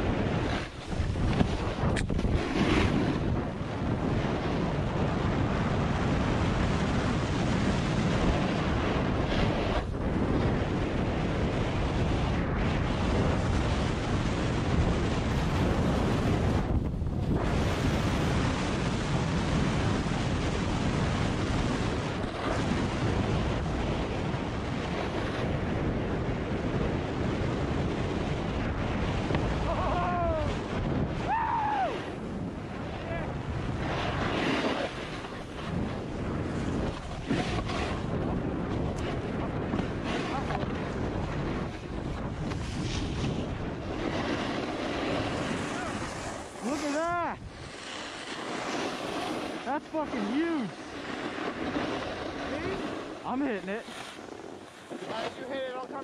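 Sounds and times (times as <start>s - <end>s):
wind over microphone: 0.0s - 56.0s
snowmobile engine: 0.1s - 56.0s.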